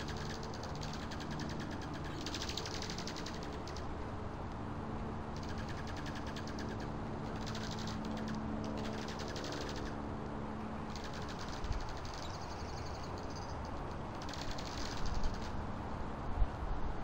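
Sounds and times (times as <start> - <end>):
birds rattling trills: 0.0 - 4.5, 5.1 - 15.6
steady low hum: 0.0 - 17.0.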